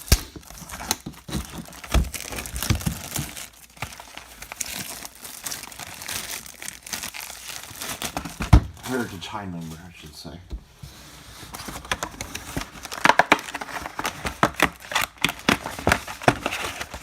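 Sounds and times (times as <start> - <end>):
plastic wrap crinkling: 0.0 - 9.8, 11.4 - 17.0.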